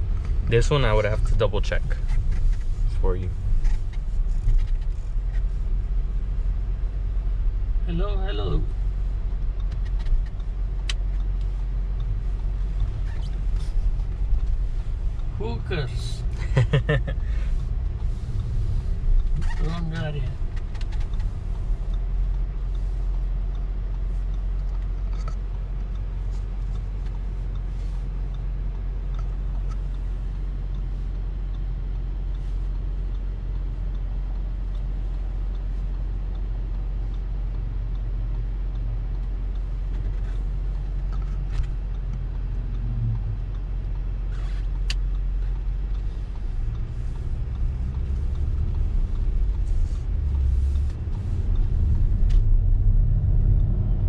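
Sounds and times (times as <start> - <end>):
engine and road rumble in car: 0.0 - 54.0.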